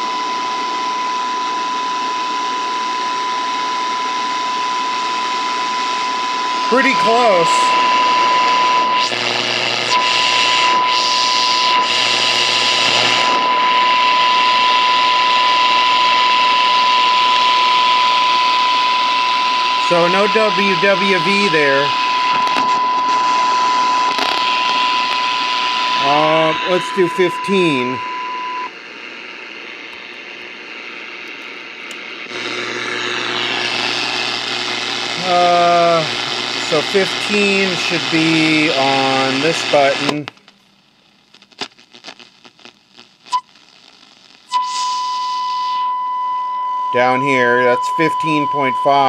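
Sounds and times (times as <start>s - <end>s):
radio test tone: 0.0s - 40.3s, 41.4s - 49.0s
radio hiss: 0.0s - 40.5s, 41.1s - 45.9s, 46.9s - 49.0s.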